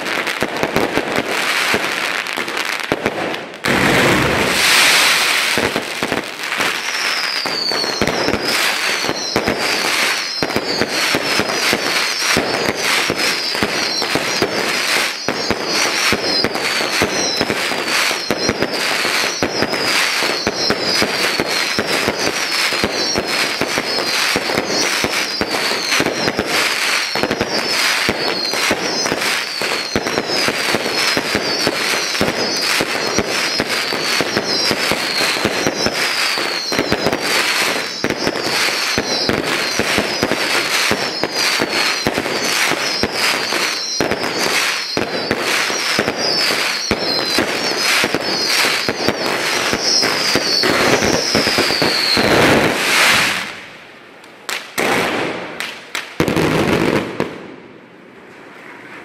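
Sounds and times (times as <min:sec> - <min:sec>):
fireworks bangs and crackling: 0:00.0 - 0:59.0
falling firework whistles: 0:03.6 - 0:53.6, 0:56.2 - 0:57.4.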